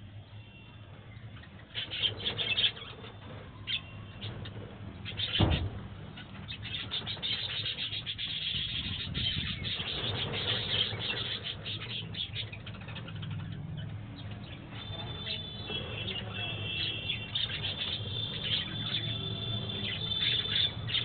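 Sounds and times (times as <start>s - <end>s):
budgerigars chirping: 1.7s - 4.4s, 5.0s - 13.6s, 14.2s - 21.0s.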